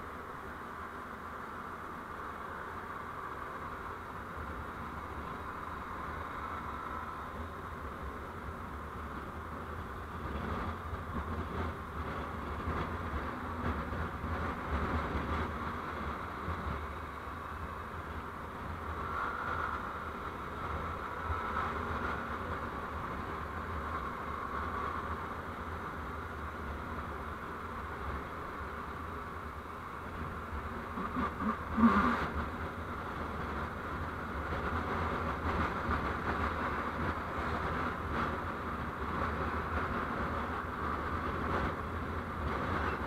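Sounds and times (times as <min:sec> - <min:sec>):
vehicle road and engine noise: 0:00.0 - 0:43.0.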